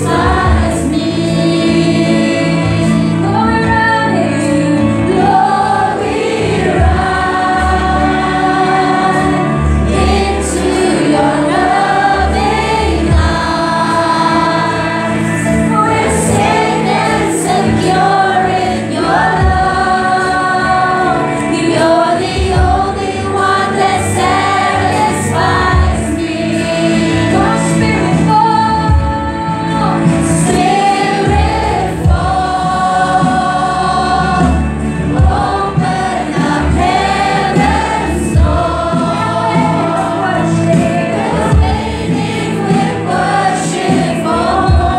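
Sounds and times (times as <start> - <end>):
group of singers: 0.0 - 44.9
instrumental accompaniment: 0.0 - 44.9.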